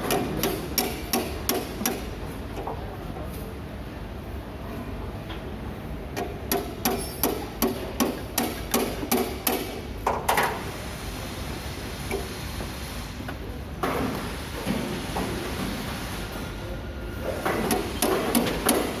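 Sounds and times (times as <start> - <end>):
low workshop hum: 0.0 - 19.0.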